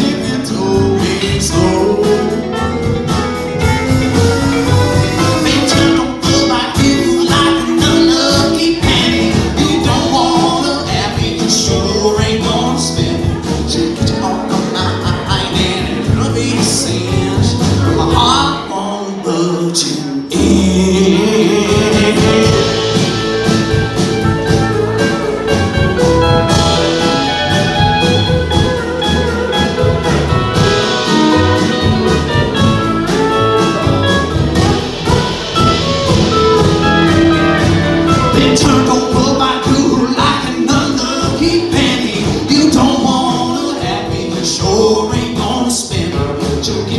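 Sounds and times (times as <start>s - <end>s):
steel guitar: 0.0s - 18.6s, 20.4s - 42.2s
electric guitar: 0.0s - 18.7s, 20.0s - 44.4s
acoustic guitar: 0.0s - 46.9s
upright bass: 0.0s - 46.9s.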